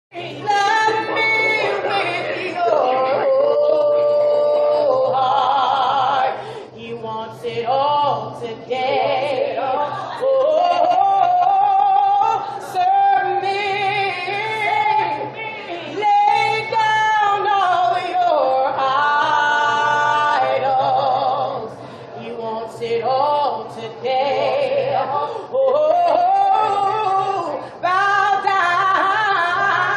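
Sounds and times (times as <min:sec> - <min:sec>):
two women singing gospel: 0:00.1 - 0:29.9.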